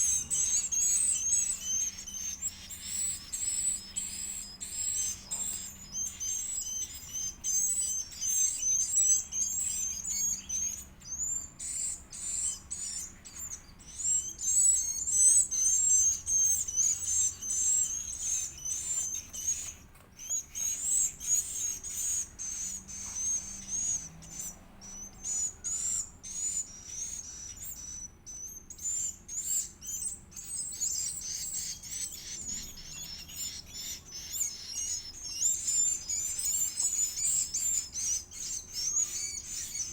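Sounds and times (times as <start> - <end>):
bird chick chirping: 0.0 - 39.9.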